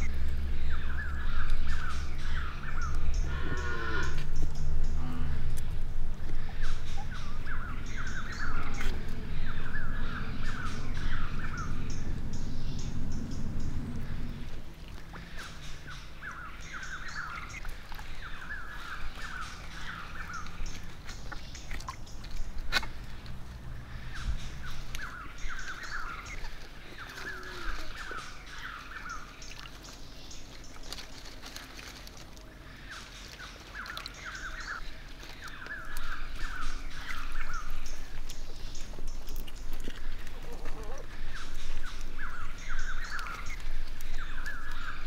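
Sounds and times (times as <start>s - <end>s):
light water splashing: 4.3s - 45.0s.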